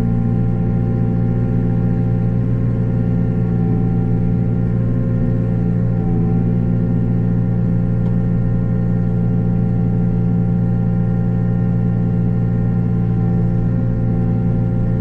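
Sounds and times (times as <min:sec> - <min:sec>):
rotary cutter droning hum: 0:00.0 - 0:15.0.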